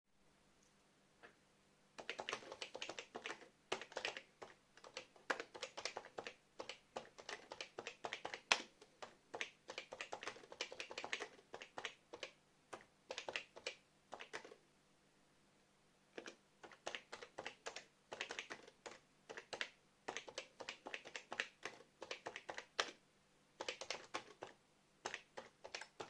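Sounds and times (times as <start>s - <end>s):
computer keyboard typing: 2.0s - 14.6s, 16.2s - 23.0s, 23.6s - 26.0s.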